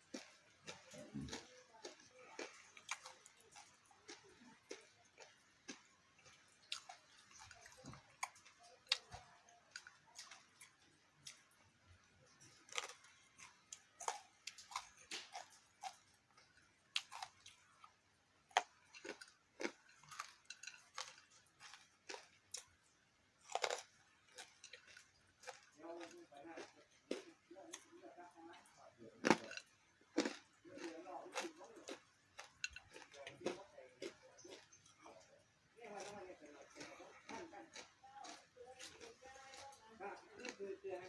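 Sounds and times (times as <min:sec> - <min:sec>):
person chewing food: 0:00.0 - 0:41.0.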